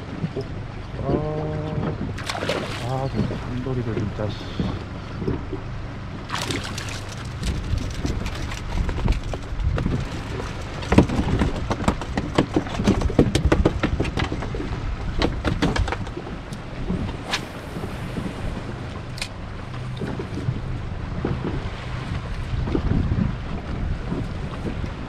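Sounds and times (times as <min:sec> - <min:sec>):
waves slapping against boat hull: 0:00.0 - 0:25.0
wind rumble on microphone: 0:00.0 - 0:25.0.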